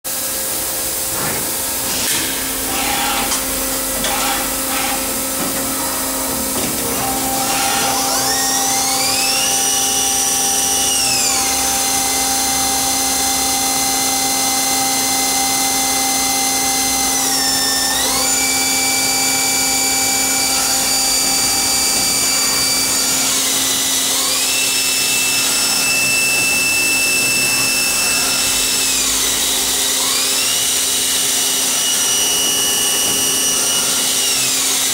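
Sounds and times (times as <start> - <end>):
steady machine hum: 0.1 - 34.9
lathe drives whining: 1.8 - 34.9.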